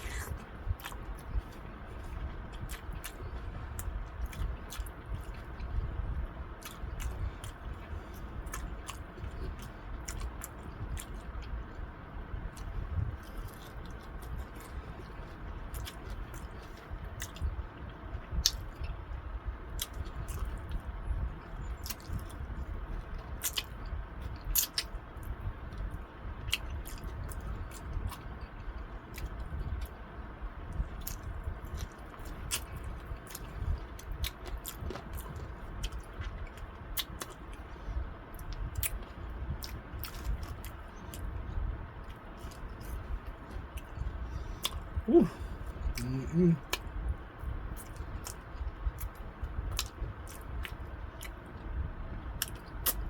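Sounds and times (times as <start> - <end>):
person chewing wetly: 0.0 - 5.9, 6.6 - 11.7, 12.5 - 18.9, 19.8 - 29.9, 30.7 - 37.7, 38.3 - 41.3, 42.0 - 47.0, 47.8 - 51.6, 52.4 - 53.0.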